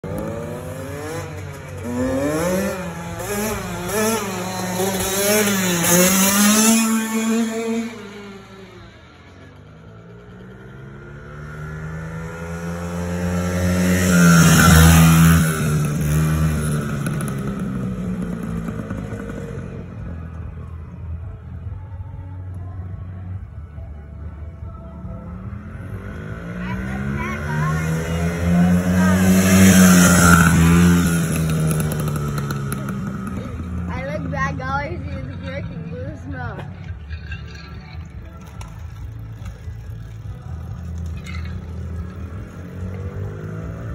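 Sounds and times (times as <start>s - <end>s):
small motorcycle engine revving: 0.0s - 20.5s, 25.8s - 43.9s.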